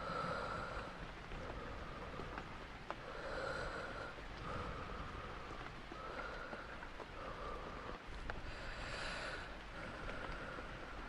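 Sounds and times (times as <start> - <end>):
slow breathing: 0.0 - 11.0
steady rain hiss: 0.0 - 11.0.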